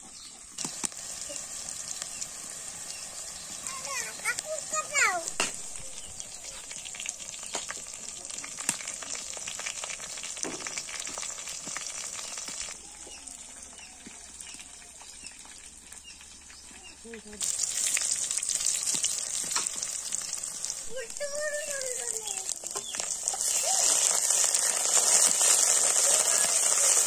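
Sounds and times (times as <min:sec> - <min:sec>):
onions sizzling in hot oil: 0:00.0 - 0:27.0.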